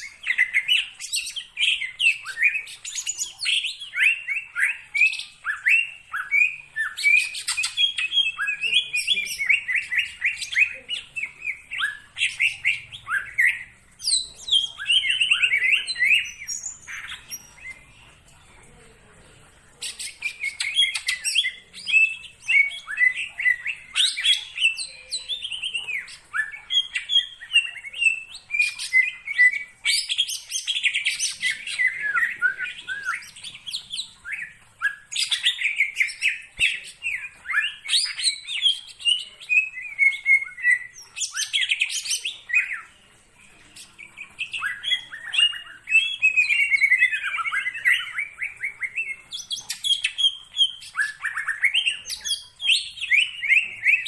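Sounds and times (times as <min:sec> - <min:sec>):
bird singing rapid chirps: 0:00.0 - 0:18.4, 0:19.8 - 0:54.0.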